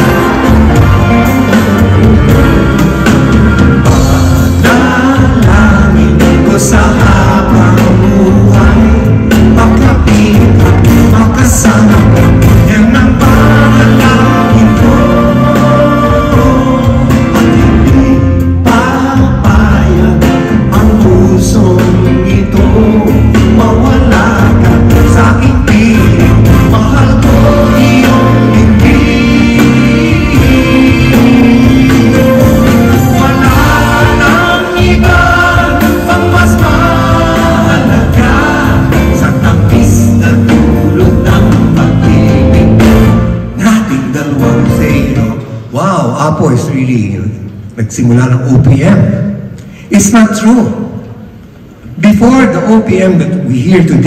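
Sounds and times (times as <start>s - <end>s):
men singing: 0.0s - 45.5s
bass guitar: 0.0s - 45.7s
drums: 0.0s - 45.8s.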